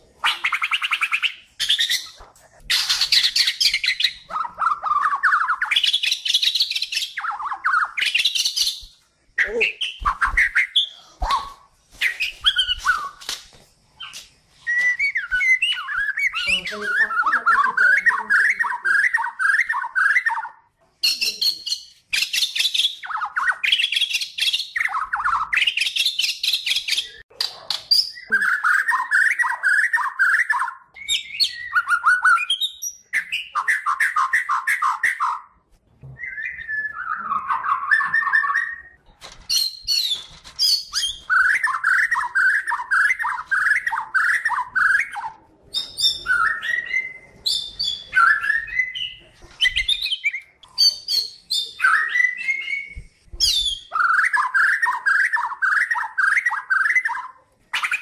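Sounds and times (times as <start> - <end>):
bird singing rattling notes and whistles: 0.2 - 13.4, 14.0 - 35.5, 36.2 - 58.0.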